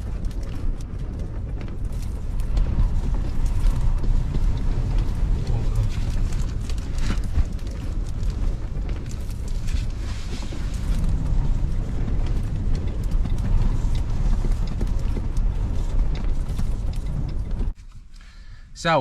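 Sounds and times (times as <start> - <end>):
gusting wind buffeting microphone: 0.0 - 18.2
small knocks and rattles: 0.0 - 18.2.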